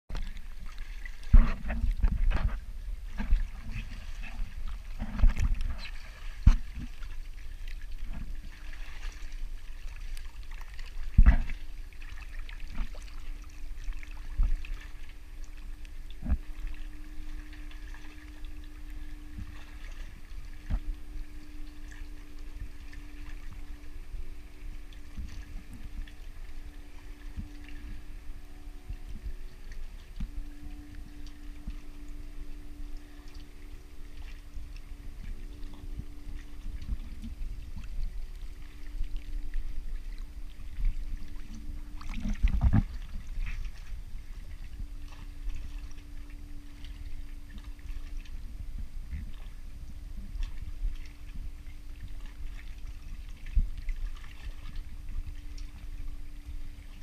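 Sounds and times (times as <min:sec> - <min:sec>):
faint steady hum: 0:00.1 - 0:57.0
sea water lapping: 0:00.1 - 0:57.0.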